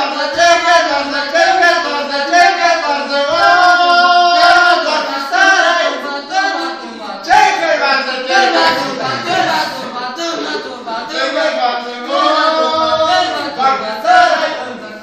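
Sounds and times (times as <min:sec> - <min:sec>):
person singing unaccompanied: 0:00.0 - 0:15.0.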